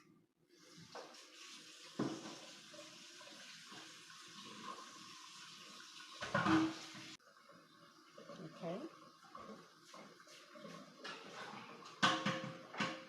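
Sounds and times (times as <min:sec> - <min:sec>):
water running from a faucet: 0:00.5 - 0:13.0.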